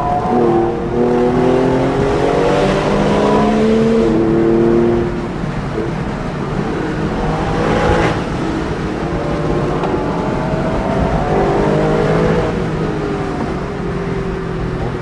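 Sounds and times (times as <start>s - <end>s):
car engine revving: 0.0s - 15.0s
road noise: 0.0s - 15.0s.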